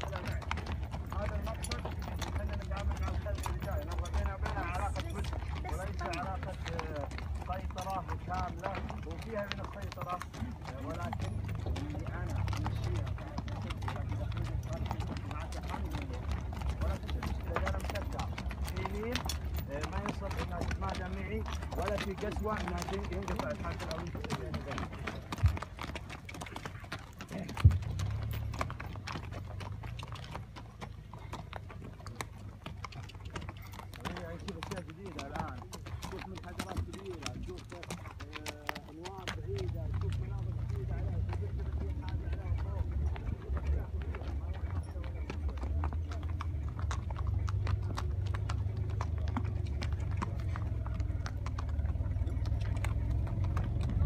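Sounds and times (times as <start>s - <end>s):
hooves clip-clopping on sand: 0.0s - 54.0s.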